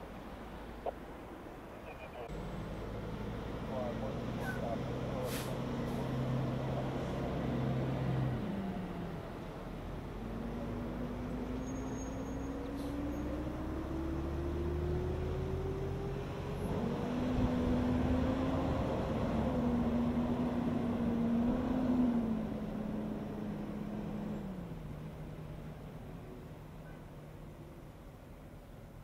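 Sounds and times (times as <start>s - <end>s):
low road rumble: 0.0s - 29.0s
diesel truck accelerating: 2.0s - 29.0s.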